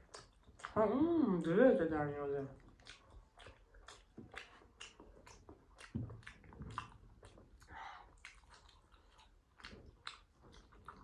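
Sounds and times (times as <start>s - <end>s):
chewing with wet mouth clicks: 0.0s - 11.0s.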